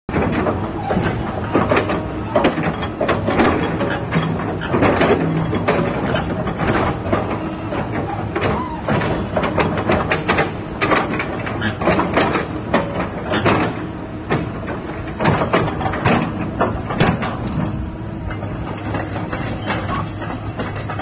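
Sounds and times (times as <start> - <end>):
excavator engine drone: 0.1 - 21.0
hydraulics whine: 0.1 - 21.0
metal knocks and clanks: 0.1 - 21.0.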